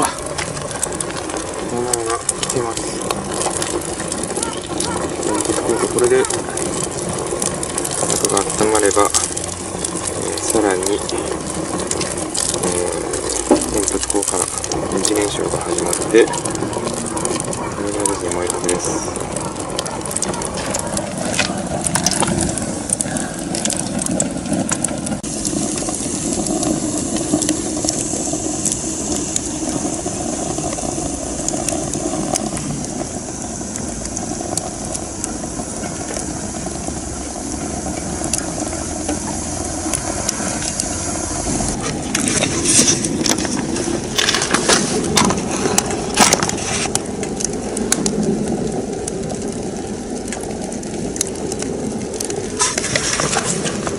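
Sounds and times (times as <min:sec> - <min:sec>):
fire crackling and popping: 0:00.0 - 0:53.9
stove fire rushing draw: 0:00.0 - 0:53.9.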